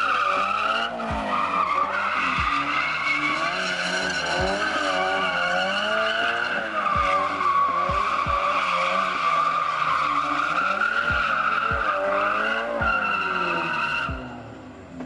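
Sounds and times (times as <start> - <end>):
tyres squealing: 0.0 - 14.4
car engine revving: 0.0 - 15.0.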